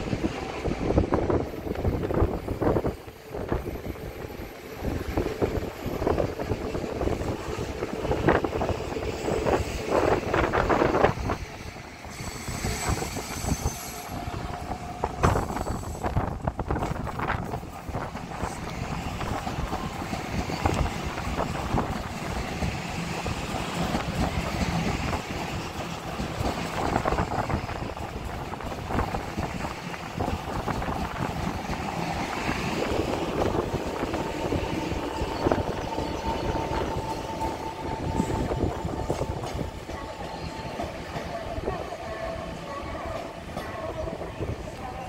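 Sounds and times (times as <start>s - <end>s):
train wheels rumbling and clacking: 0.0s - 45.0s.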